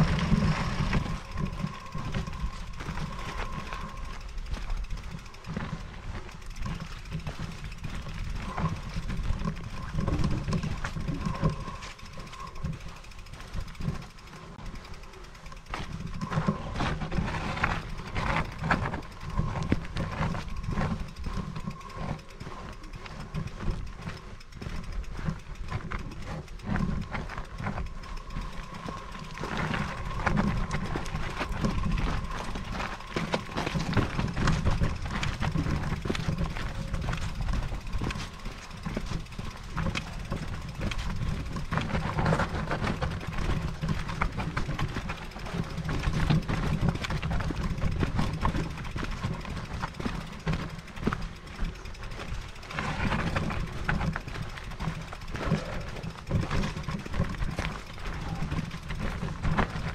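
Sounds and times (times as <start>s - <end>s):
bike rattles and clicks: 0.0s - 59.9s
bike rumbling over rough trail: 0.0s - 59.9s
thin steady whine: 0.0s - 59.9s.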